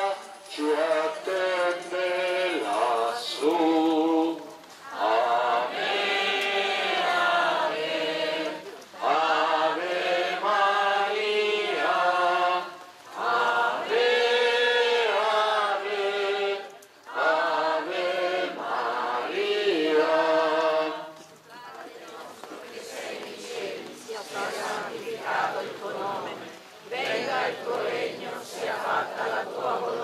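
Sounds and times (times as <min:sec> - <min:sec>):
group singing a hymn: 0:00.0 - 0:30.0.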